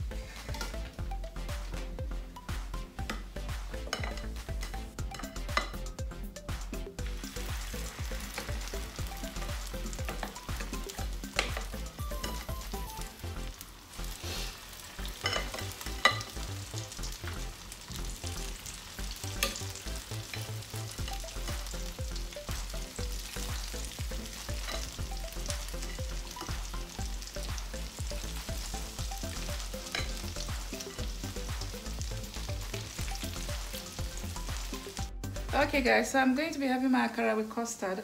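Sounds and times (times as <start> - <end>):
fritters sizzling in hot oil: 0.0 - 35.6.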